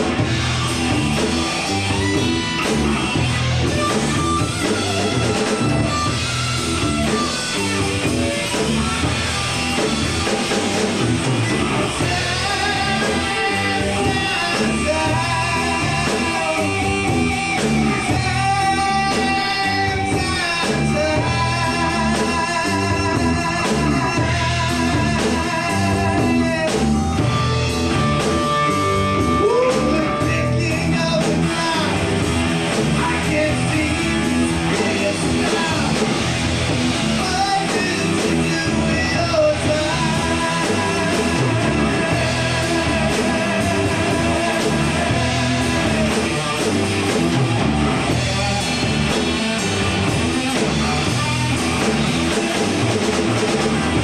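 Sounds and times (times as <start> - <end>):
bass guitar: 0.0 - 54.0
drum kit: 0.0 - 54.0
electric guitar wavering notes: 0.0 - 54.0.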